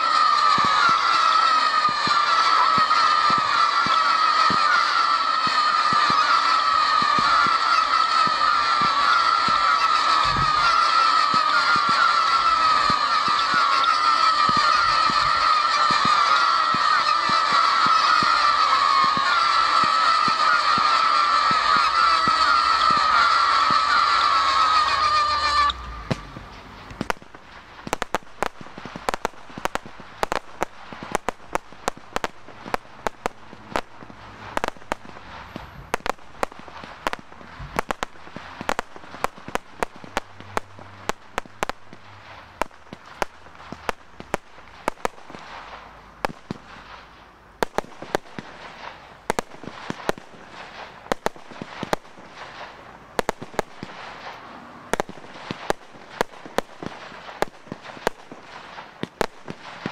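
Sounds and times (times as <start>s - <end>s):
fireworks bangs and pops: 0.0s - 59.9s
fireworks crackling hiss: 0.0s - 59.9s.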